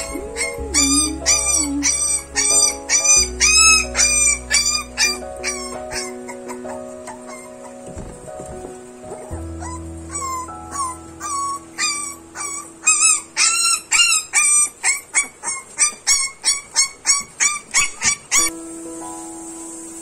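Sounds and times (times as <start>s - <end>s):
puppy yelping and whining: 0.0s - 8.0s, 9.6s - 18.5s.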